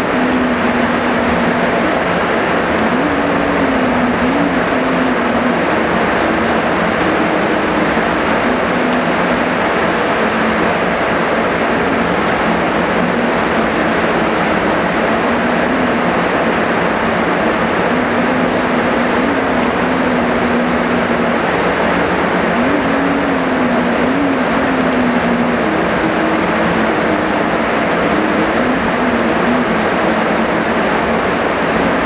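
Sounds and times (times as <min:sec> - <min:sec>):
heavy rain hissing: 0:00.0 - 0:32.0.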